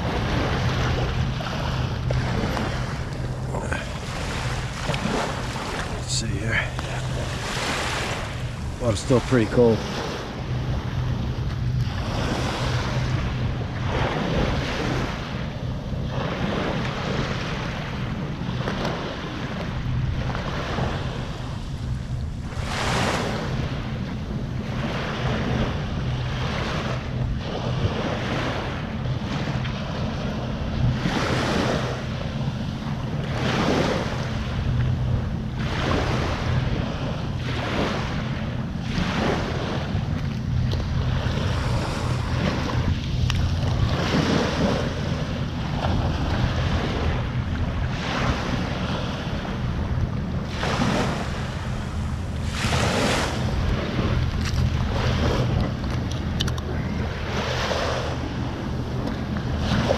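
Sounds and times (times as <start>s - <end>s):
steady low hum: 0.0s - 59.9s
waves washing on beach: 0.0s - 59.9s
wind on microphone: 0.0s - 59.9s.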